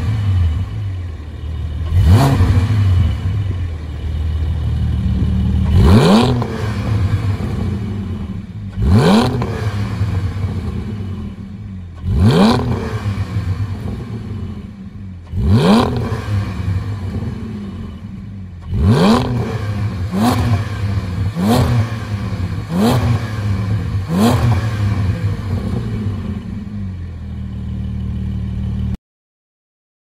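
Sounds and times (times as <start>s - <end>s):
sports car engine revving: 0.0s - 29.0s.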